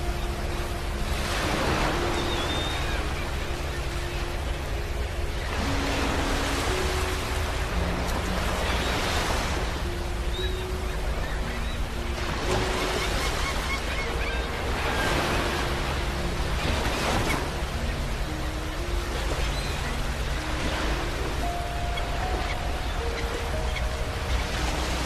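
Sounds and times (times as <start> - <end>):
ocean waves breaking: 0.0 - 25.0
soft slow melody: 0.0 - 25.0.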